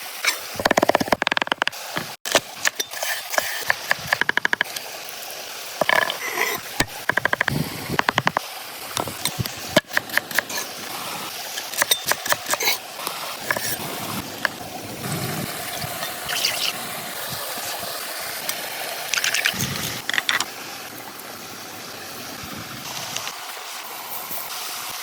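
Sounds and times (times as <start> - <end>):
stream rushing: 0.0 - 25.0.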